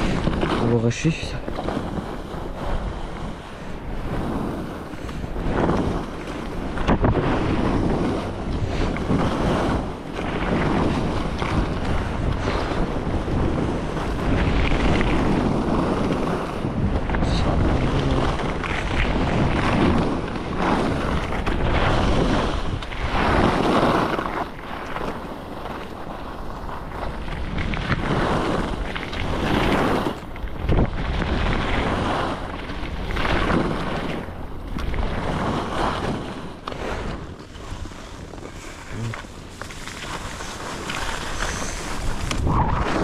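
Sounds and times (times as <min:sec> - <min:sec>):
skis swishing through snow: 0:00.0 - 0:43.0
wind rushing on microphone: 0:00.0 - 0:43.0.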